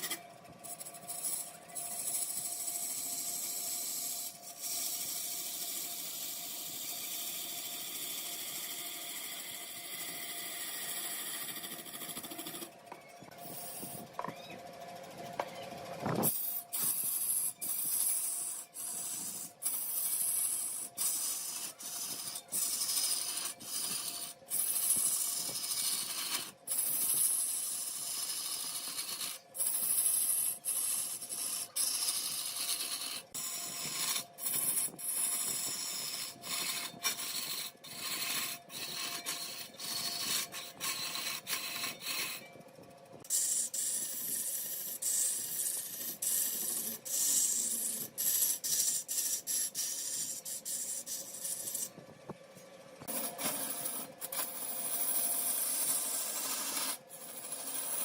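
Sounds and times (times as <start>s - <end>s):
wood lathe scraping hiss: 0.0s - 12.7s, 13.3s - 14.3s, 16.2s - 42.6s, 43.2s - 52.0s, 53.0s - 58.0s.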